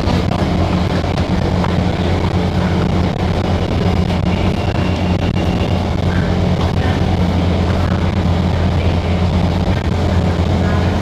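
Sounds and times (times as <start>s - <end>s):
train carriage hum and rumble: 0.0s - 11.0s.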